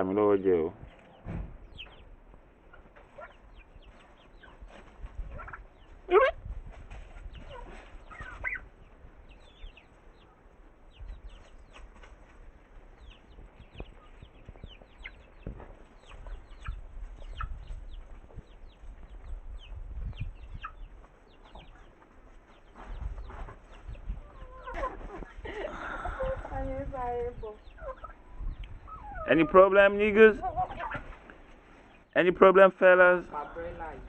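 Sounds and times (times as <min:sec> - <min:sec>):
chickens clucking: 0:00.0 - 0:32.2.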